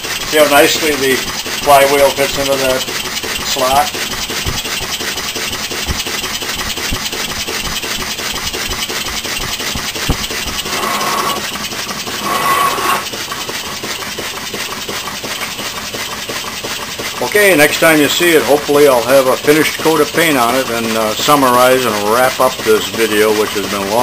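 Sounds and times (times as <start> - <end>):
model steam engine chuffing: 0.0 - 24.0.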